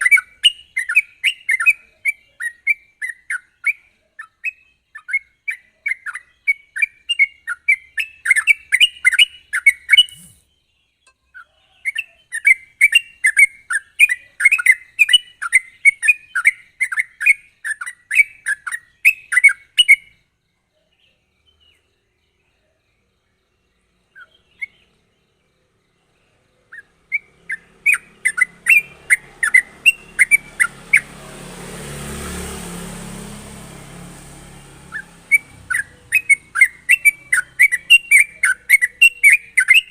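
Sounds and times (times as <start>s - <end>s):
bird chattering song: 0.0s - 31.4s, 33.4s - 39.9s.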